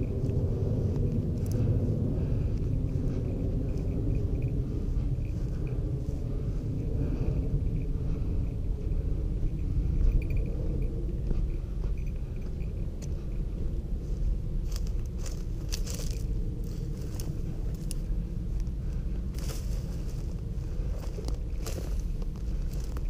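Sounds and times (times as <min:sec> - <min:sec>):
crunching crackles: 0:00.0 - 0:23.0
wind buffeting microphone: 0:00.0 - 0:23.0.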